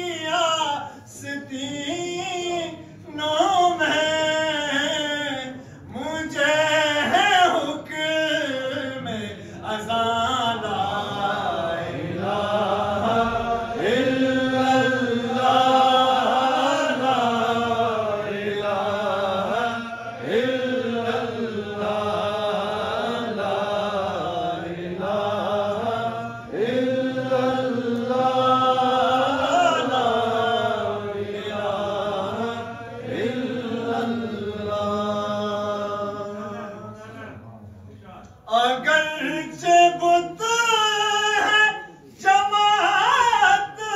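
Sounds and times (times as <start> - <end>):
man chanting: 0.0 - 27.6, 28.2 - 37.7, 38.4 - 43.9.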